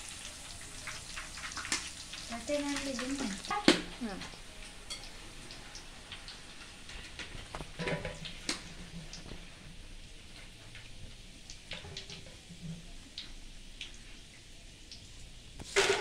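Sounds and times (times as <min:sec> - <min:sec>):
deep-frying sizzle with crackles: 0:00.0 - 0:16.0.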